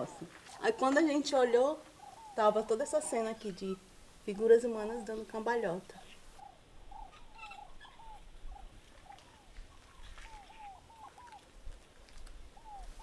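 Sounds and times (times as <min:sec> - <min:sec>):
faint bird calling: 0:00.0 - 0:13.0.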